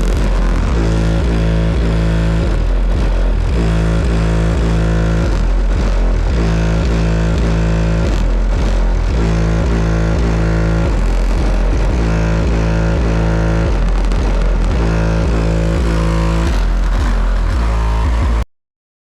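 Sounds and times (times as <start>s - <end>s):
bass-heavy music from car audio: 0.0s - 18.4s.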